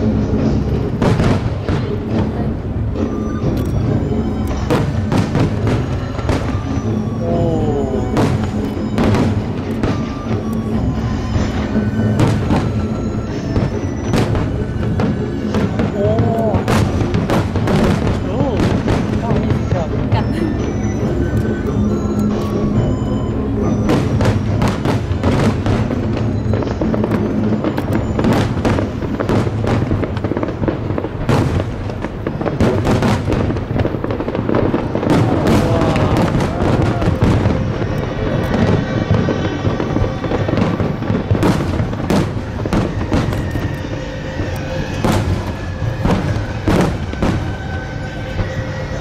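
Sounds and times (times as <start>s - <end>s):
fireworks bangs: 0.0s - 49.0s
music playing: 0.0s - 49.0s.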